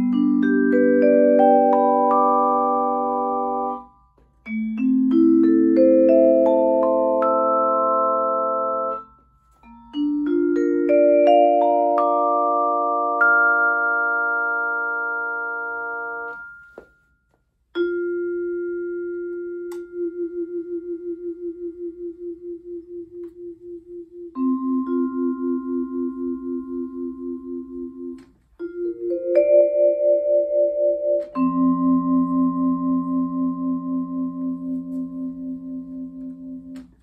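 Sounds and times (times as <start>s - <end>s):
vibraphone chord ringing: 0.0s - 17.2s, 17.8s - 22.0s, 24.3s - 36.8s
vibraphone note with pulsing vibrato: 4.5s - 17.1s, 17.8s - 36.8s.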